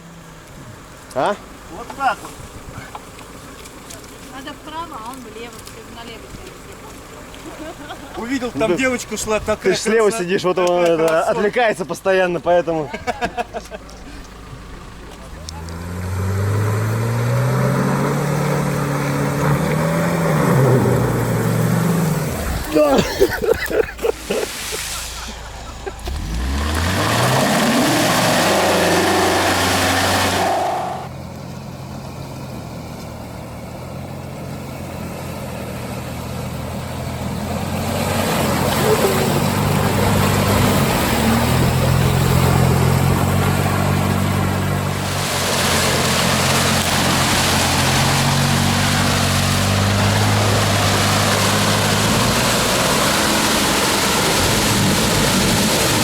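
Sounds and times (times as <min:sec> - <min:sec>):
off-road vehicle engines revving: 0:00.0 - 0:56.0.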